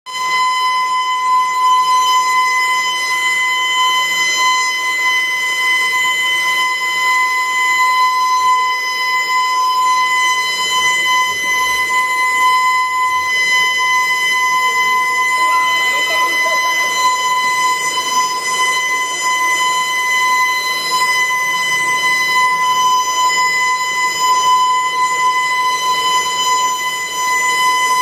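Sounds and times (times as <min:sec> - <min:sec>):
evacuation alarm steady tone: 0:00.1 - 0:28.0.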